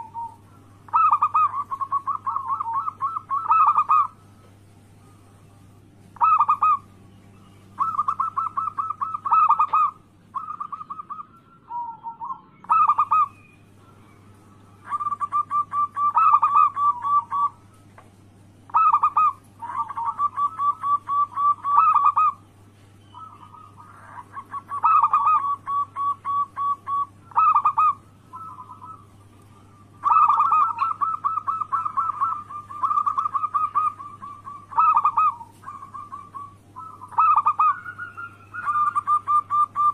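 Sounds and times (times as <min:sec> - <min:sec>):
dove cooing: 0:00.0 - 0:05.2, 0:06.0 - 0:17.8, 0:18.7 - 0:39.9.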